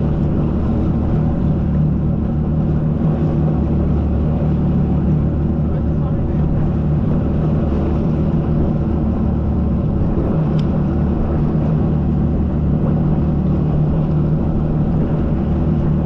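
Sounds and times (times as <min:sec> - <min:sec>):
jet ski engine droning: 0:00.0 - 0:16.0.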